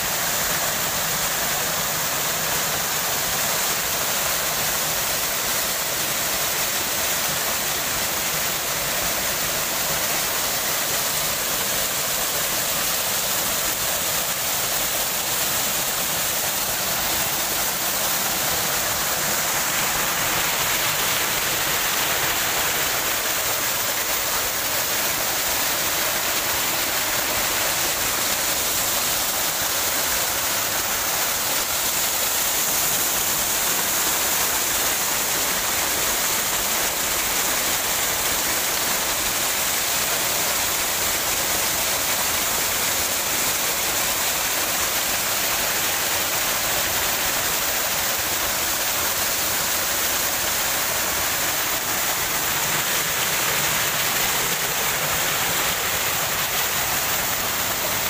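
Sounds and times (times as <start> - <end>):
waterfall splashing over rocks: 0.0 - 58.0.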